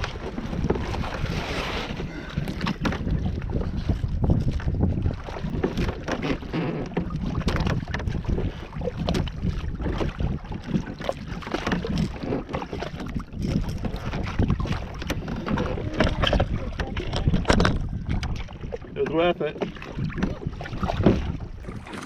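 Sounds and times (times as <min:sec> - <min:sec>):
water slapping kayak hull: 0:00.0 - 0:22.0
wind buffeting microphone: 0:00.0 - 0:22.0.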